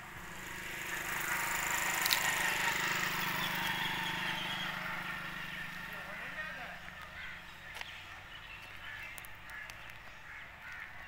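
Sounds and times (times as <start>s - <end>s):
vehicle passing by: 0.0s - 10.7s.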